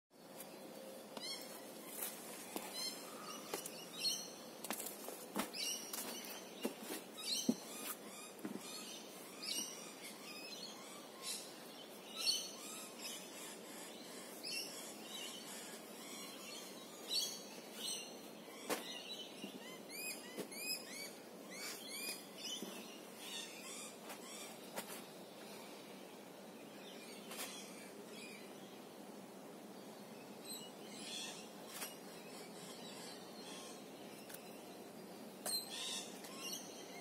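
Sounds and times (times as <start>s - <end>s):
wild birds chirping: 0.2s - 37.0s.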